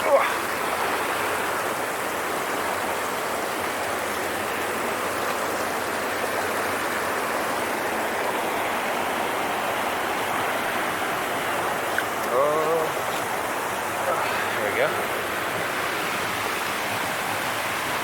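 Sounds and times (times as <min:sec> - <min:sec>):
creek water rushing over rock: 0:00.0 - 0:18.0.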